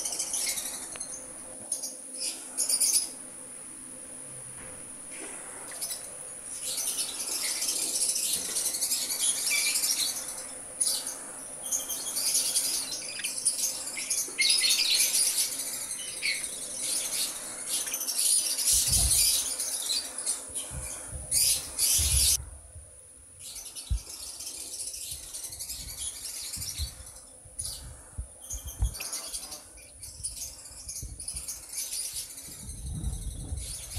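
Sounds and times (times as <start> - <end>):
lovebirds chirping: 5.3 - 22.4, 23.4 - 33.9.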